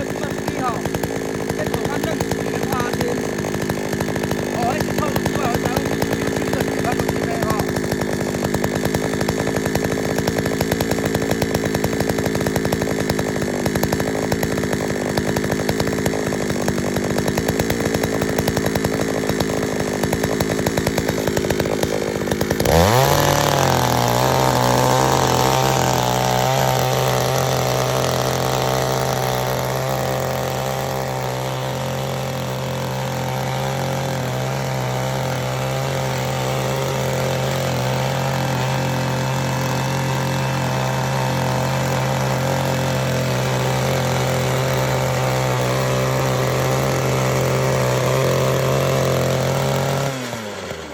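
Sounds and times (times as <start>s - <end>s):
small petrol engine revving: 0.0s - 50.9s.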